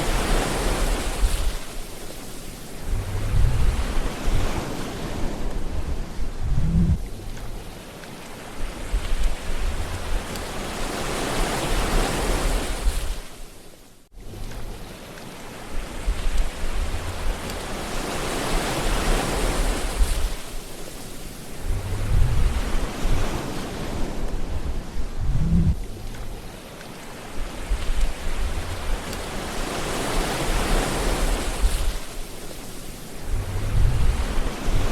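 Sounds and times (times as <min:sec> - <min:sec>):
ocean waves washing ashore: 0:00.0 - 0:34.9.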